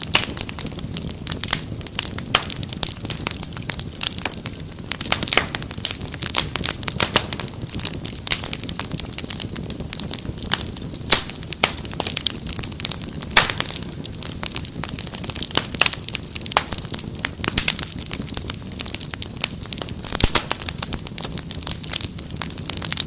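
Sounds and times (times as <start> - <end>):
fire pops and snaps: 0.0 - 23.0
low rumble of flames: 0.0 - 23.0
wood fire crackling: 0.0 - 23.0.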